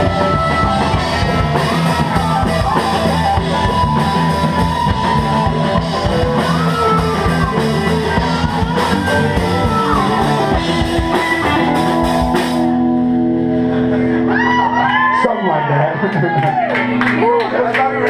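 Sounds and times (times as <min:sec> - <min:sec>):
guitar chord ringing: 0:00.0 - 0:14.7
live rock band playing: 0:00.0 - 0:18.0.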